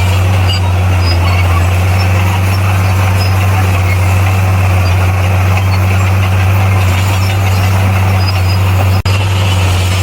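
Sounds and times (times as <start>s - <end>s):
bulldozer diesel engine drone: 0.0s - 10.0s.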